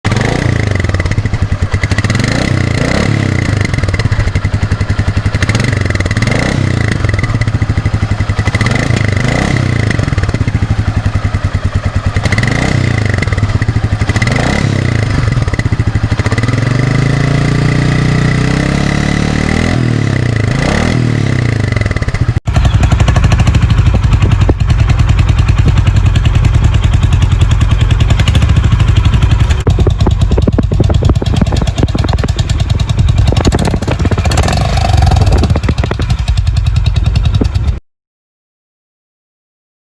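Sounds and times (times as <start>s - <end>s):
motorcycle idling: 0.1s - 18.5s, 19.8s - 37.8s
motorcycle engine revving: 0.1s - 37.8s.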